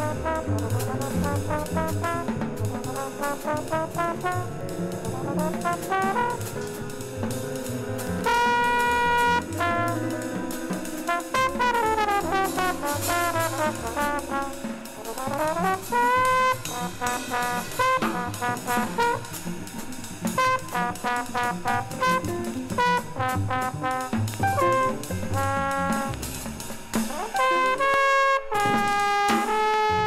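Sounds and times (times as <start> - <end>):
trombone playing: 0.0 - 19.5, 20.3 - 30.0
bass: 0.0 - 30.0
drums: 0.0 - 30.0.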